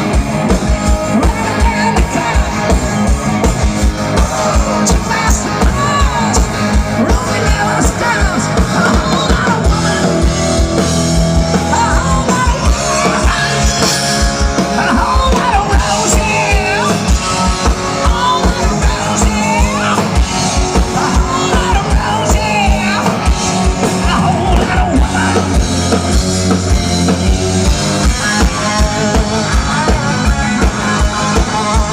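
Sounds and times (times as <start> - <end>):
person singing: 0.0 - 26.2, 27.1 - 31.9
fast driving drum beat: 0.0 - 31.9
live rock band playing: 0.0 - 31.9.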